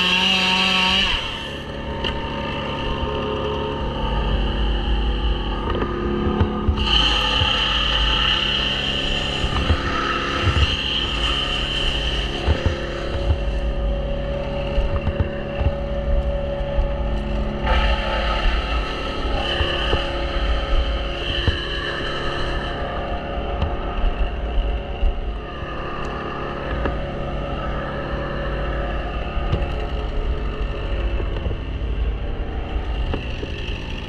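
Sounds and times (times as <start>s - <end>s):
small engine running: 0.0s - 22.7s, 28.0s - 34.0s.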